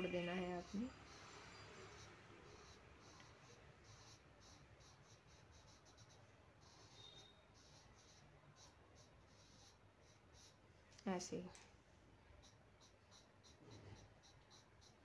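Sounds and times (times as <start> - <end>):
pencil scratching on paper: 0.0 - 10.6, 12.4 - 15.0.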